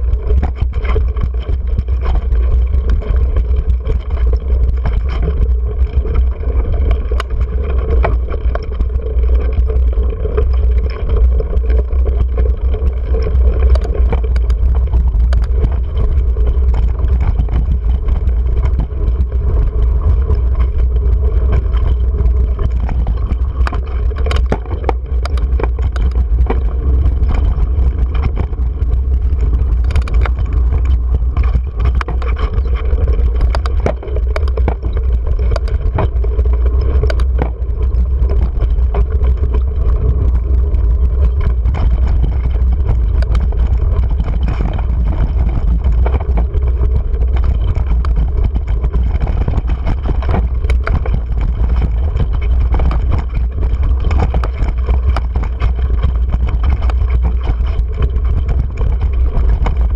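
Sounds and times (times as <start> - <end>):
bike rattling over rocks: 0.0 - 59.9
bike tyres on dirt: 0.0 - 59.9
wind rumble on microphone: 0.0 - 59.9.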